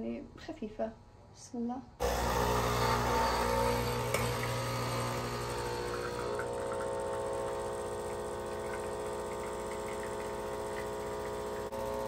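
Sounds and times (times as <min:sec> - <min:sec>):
coffee machine pump buzzing: 0:02.0 - 0:12.0.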